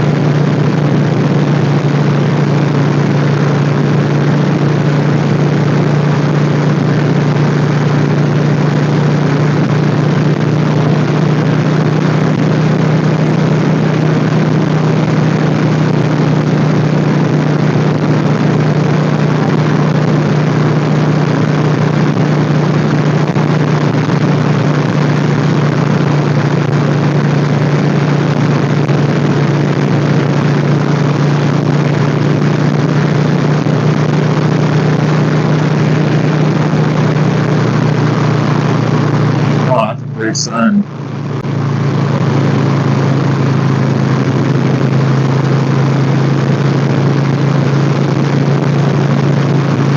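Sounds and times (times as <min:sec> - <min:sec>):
motorcycle engine cruising: 0:00.0 - 0:40.2.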